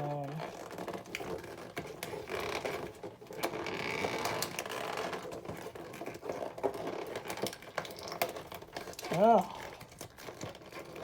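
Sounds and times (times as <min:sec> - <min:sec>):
toy packaging clicks and scrapes: 0:00.0 - 0:11.0.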